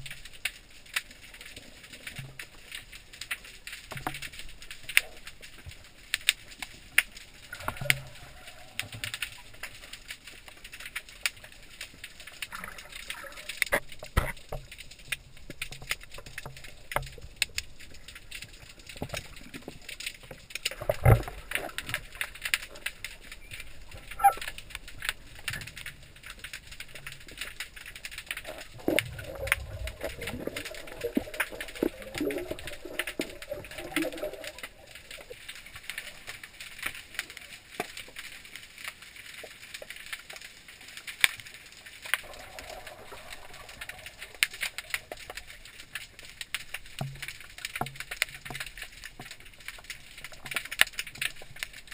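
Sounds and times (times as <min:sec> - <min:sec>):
underwater clicks and knocks: 0:00.0 - 0:38.3, 0:41.1 - 0:51.9
faint water hiss: 0:00.0 - 0:51.9
low rumble of moving water: 0:00.0 - 0:51.9.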